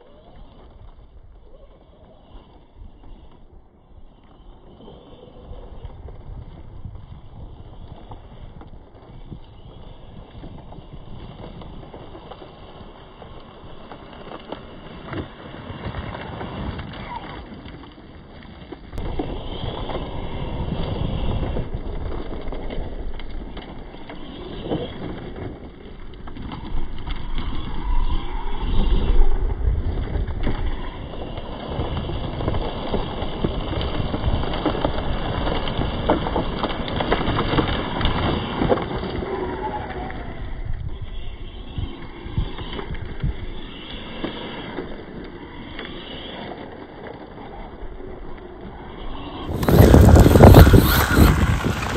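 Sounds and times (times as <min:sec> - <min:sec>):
electric motor whine: 0:00.0 - 0:15.3, 0:19.0 - 0:51.9
tyres rumbling on gravel: 0:00.0 - 0:51.9.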